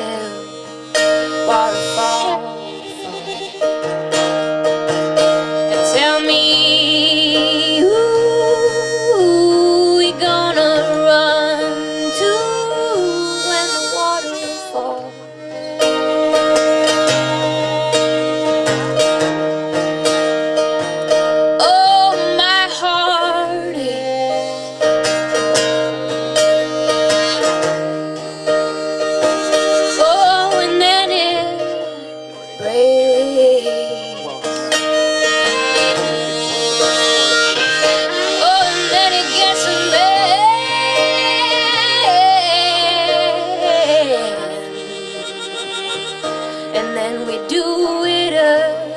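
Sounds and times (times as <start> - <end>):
harmonica solo: 0.0 - 48.9
string band accompaniment: 0.0 - 48.9.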